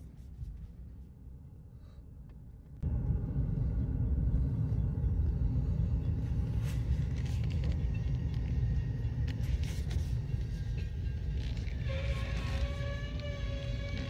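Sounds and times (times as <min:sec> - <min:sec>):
vehicle rumble inside car: 0:02.2 - 0:14.0.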